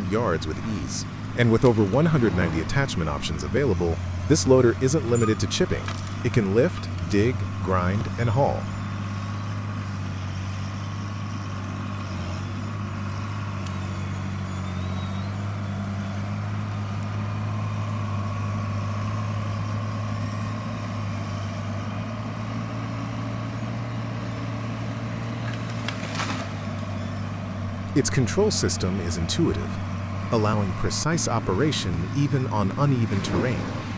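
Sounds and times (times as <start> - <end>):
loader engine running: 0.0 - 33.9.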